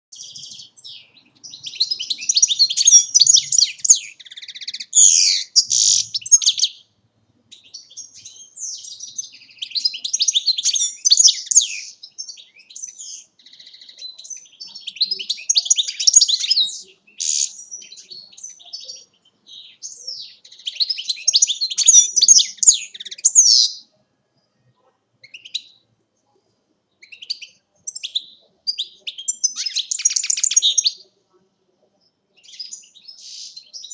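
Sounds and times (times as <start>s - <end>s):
goldfinch twittering song: 0.1s - 6.9s, 7.5s - 23.9s, 27.0s - 31.1s.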